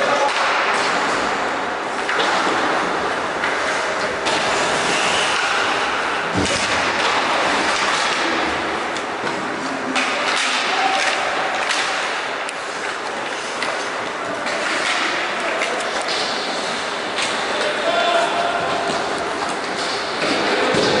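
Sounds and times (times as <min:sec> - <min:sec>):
echoing arena noise: 0:00.0 - 0:21.0
sharp knocks of sticks and puck: 0:00.0 - 0:21.0
skates scraping ice: 0:00.0 - 0:21.0.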